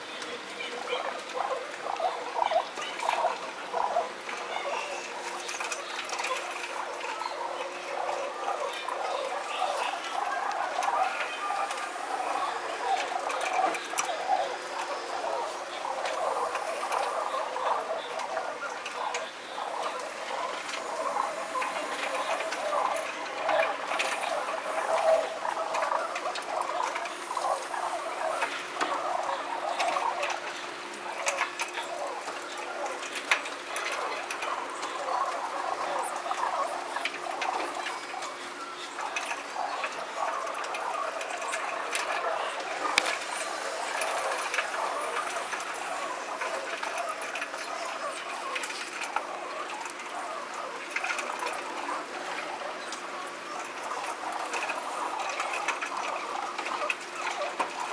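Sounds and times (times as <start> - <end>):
busy murmur: 0.0 - 57.9
pigeons pecking grain on concrete: 0.0 - 57.9.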